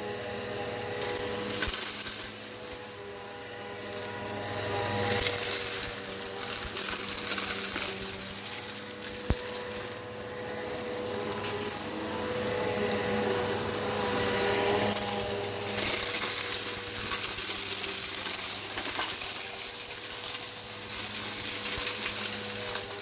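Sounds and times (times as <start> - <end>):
vacuum cleaner suction hiss: 0.0 - 23.0
gritty ticks of debris: 0.3 - 23.0.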